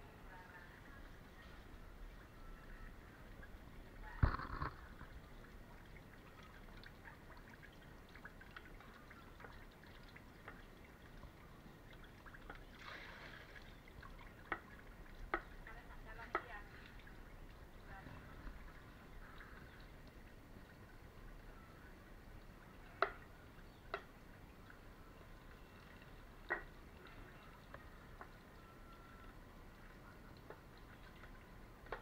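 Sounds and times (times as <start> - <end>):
liquid dripping into basin: 2.1 - 32.0.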